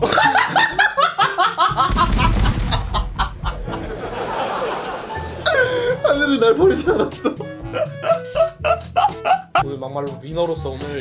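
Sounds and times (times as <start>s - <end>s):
men laughing: 0.0s - 9.6s.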